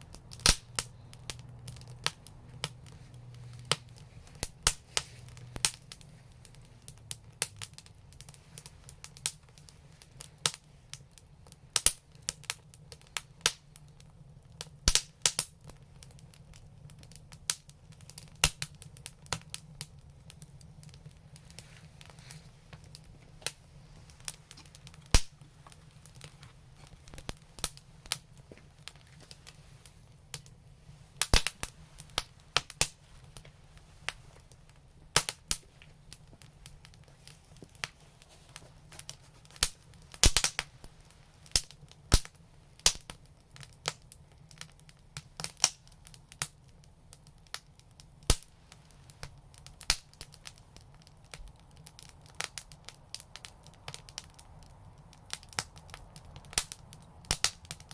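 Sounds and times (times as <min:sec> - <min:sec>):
fire popping: 0:00.0 - 0:57.9
wood fire crackling: 0:00.0 - 0:57.9.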